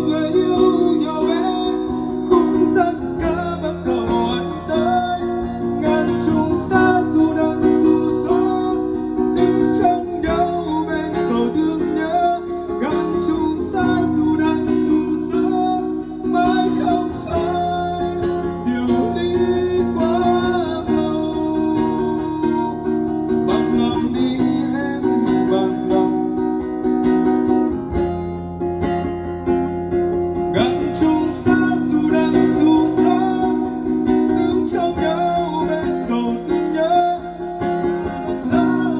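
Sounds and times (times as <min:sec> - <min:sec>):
plucked guitar melody: 0:00.0 - 0:38.9.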